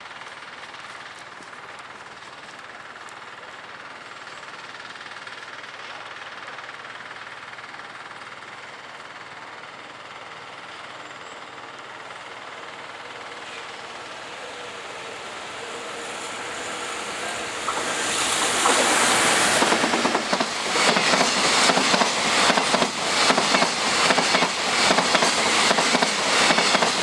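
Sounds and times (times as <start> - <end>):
freight train rumbling on rails: 0.2 - 27.0.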